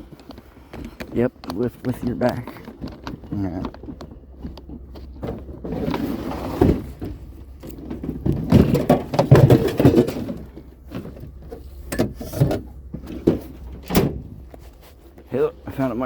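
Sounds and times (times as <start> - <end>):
objects clunking and rustling: 0.0 - 15.9.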